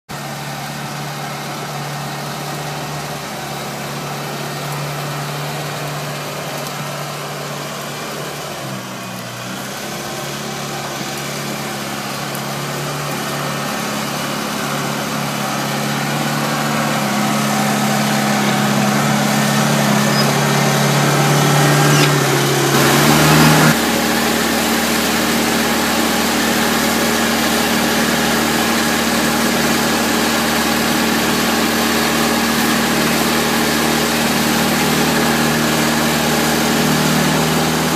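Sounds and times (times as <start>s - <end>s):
diesel engine running: 0.1s - 37.9s
tracks crawling: 0.2s - 37.9s.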